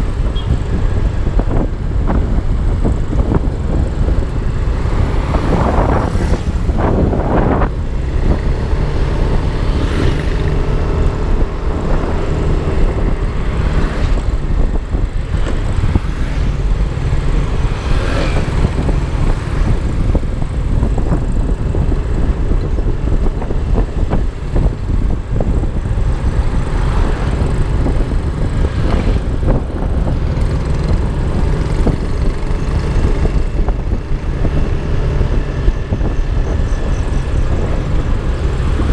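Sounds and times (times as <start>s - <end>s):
passing traffic: 0.0s - 38.9s
wind rumbling over microphone: 0.0s - 38.9s.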